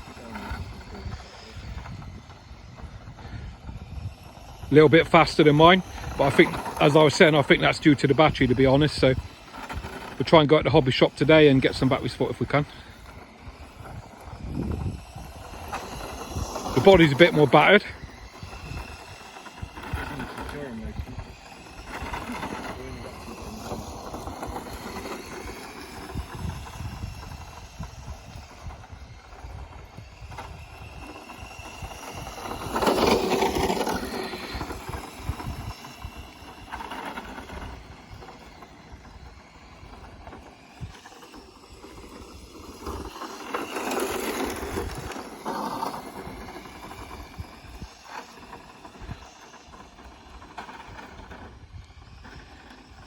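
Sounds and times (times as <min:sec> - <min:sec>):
toy car motor whine: 0:00.0 - 0:53.0.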